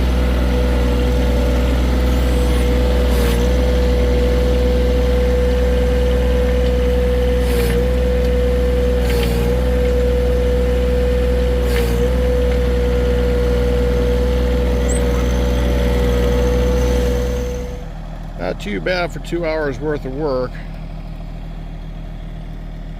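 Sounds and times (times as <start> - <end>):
tractor diesel engine humming: 0.0 - 22.9.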